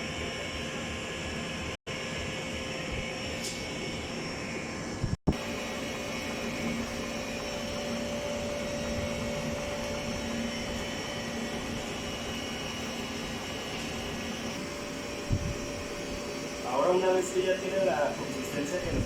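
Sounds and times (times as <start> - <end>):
ice cream machine humming: 0.0 - 19.0.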